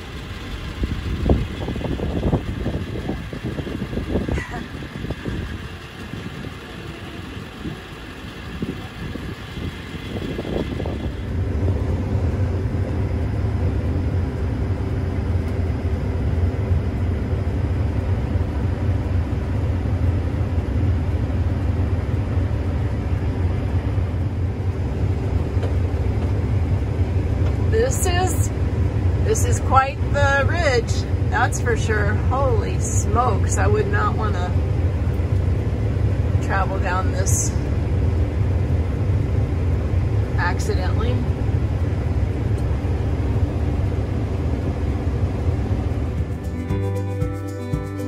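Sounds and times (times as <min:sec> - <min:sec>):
combine engine and threshing drone: 0:00.0 - 0:47.7
uneven vehicle noise: 0:00.0 - 0:48.0.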